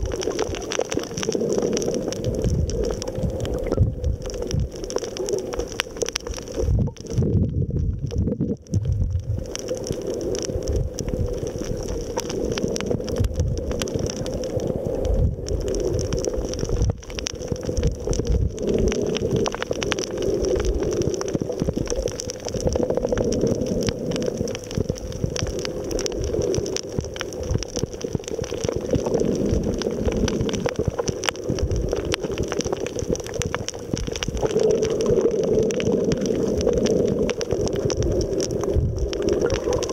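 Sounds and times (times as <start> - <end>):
low underwater rumble: 0.0 - 39.9
water gurgling underwater: 0.0 - 39.9.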